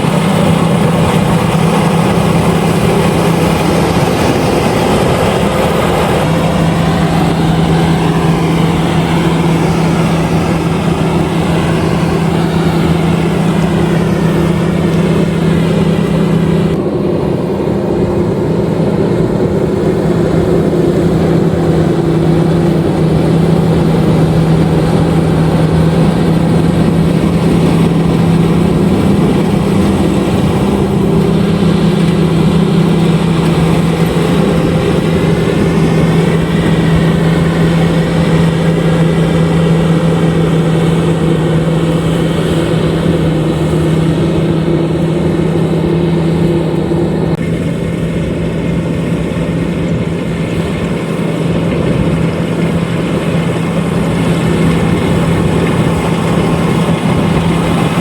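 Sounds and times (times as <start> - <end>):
combine harvester engine hum: 0.0 - 58.0
noisy machinery: 0.0 - 58.0.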